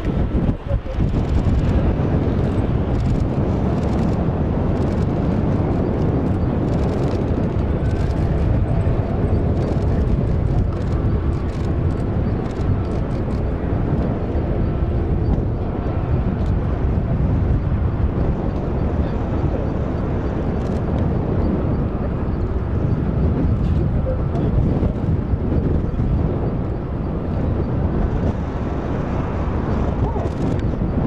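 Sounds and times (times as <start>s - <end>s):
distant jet engines rumbling: 0.0s - 31.0s.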